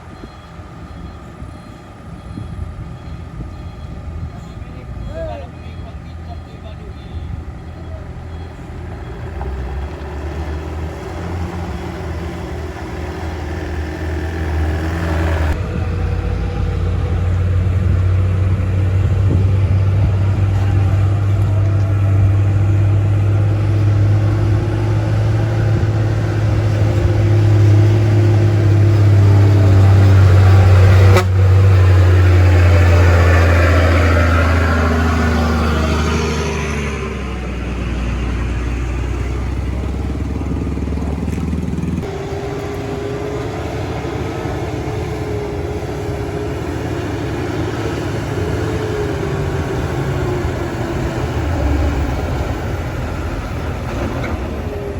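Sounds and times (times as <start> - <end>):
heavy diesel engine labouring: 0.0 - 54.9.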